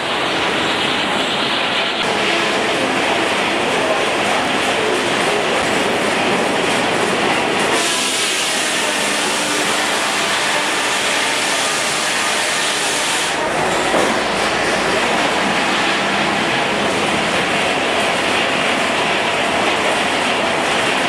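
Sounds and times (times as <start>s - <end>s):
steam traction engine running: 0.0s - 21.0s.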